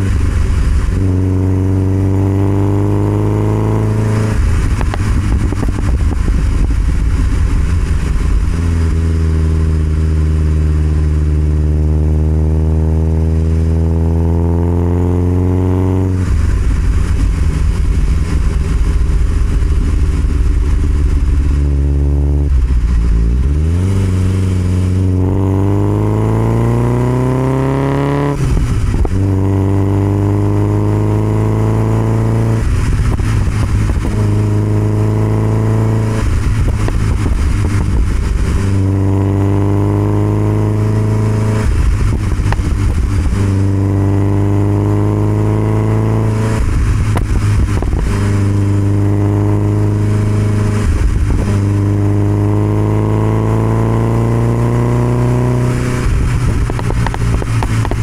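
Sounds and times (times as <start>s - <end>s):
car engine driving: 0.0s - 58.0s.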